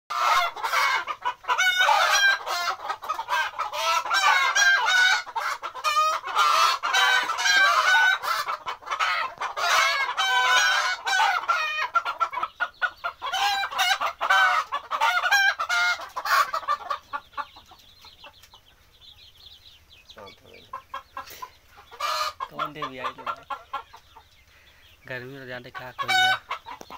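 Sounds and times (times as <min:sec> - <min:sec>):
chickens clucking and squawking: 0:00.1 - 0:26.9.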